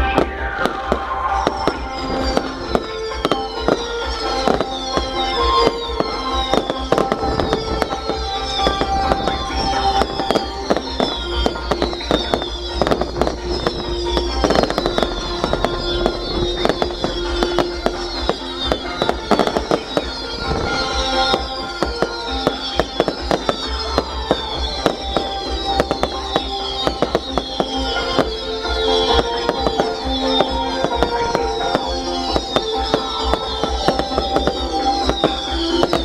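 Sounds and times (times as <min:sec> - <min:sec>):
firework whistles falling in pitch: 0:00.0 - 0:36.0
fireworks crackling bangs: 0:00.0 - 0:36.0
music: 0:00.0 - 0:36.0.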